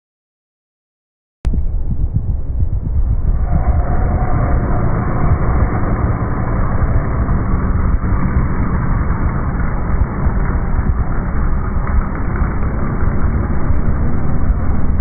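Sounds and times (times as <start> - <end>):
rally engine rumbling: 1.5 - 15.0.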